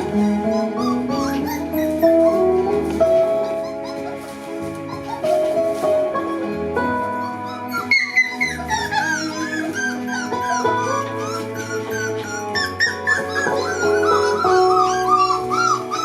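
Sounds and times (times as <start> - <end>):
music with held notes: 0.0 - 16.0
puppies whining and squeaking: 0.0 - 16.0.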